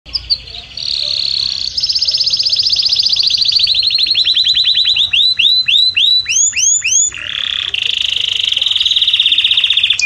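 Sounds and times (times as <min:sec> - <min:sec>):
canary singing trills: 0:00.1 - 0:10.0.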